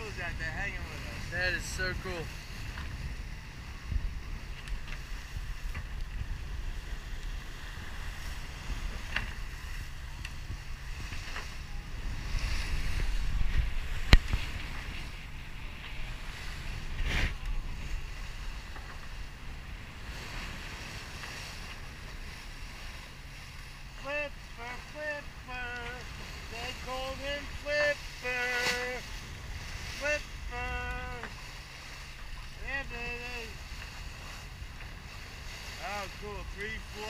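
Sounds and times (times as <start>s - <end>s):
water rushing past hull: 0.0s - 37.0s
wind buffeting microphone: 0.0s - 37.0s.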